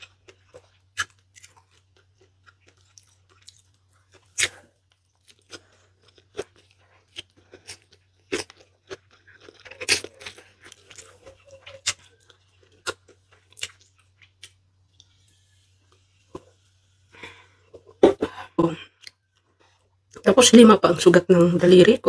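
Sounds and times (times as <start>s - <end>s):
chewing and smacking noodles: 0.0s - 18.0s.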